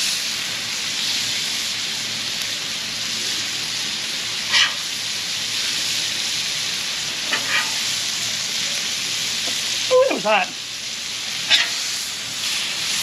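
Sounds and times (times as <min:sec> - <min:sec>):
fish sizzling in a hot pan: 0:00.0 - 0:13.0.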